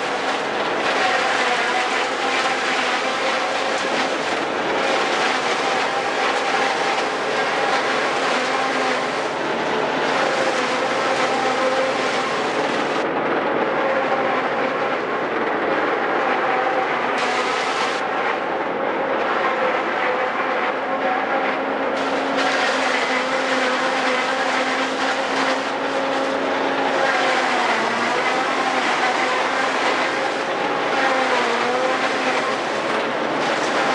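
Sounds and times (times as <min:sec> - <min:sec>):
forage harvester droning: 0:00.0 - 0:33.9.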